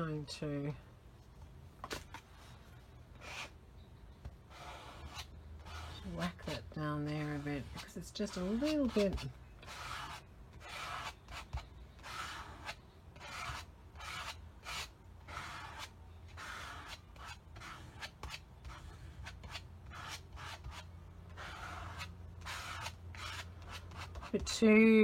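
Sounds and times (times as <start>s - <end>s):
scraper scraping over paper: 4.5s - 24.6s.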